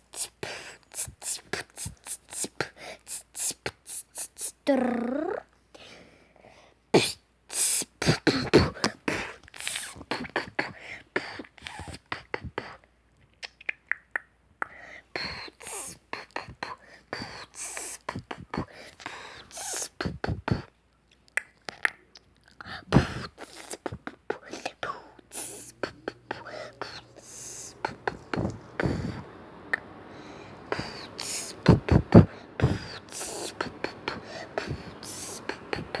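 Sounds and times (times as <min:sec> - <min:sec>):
person beatboxing: 0:00.1 - 0:04.8, 0:07.0 - 0:12.8, 0:13.4 - 0:20.7, 0:22.8 - 0:29.9, 0:30.6 - 0:36.0.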